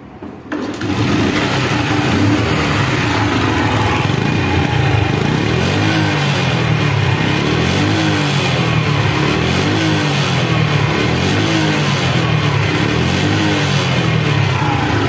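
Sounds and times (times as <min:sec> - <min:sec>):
small motorcycle engine running: 0:00.6 - 0:15.0.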